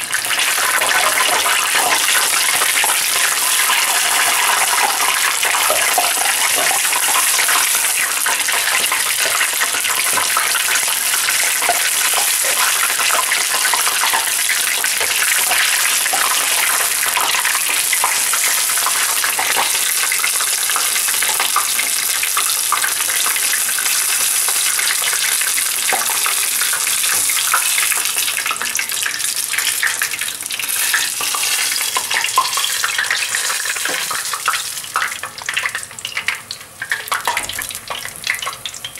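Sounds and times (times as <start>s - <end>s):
leaves deep-frying in oil: 0.0s - 38.9s.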